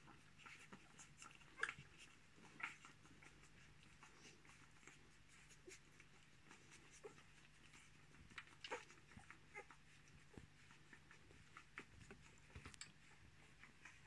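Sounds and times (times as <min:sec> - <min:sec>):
puppies sucking wetly: 0:00.0 - 0:14.0.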